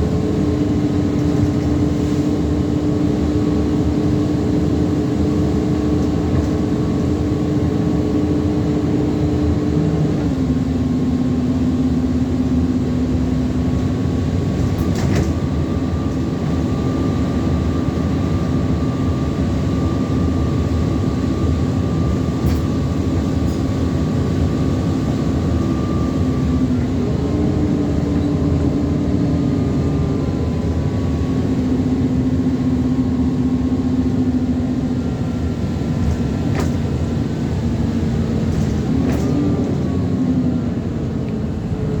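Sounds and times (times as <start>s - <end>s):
bus drivetrain droning: 0.0s - 42.0s.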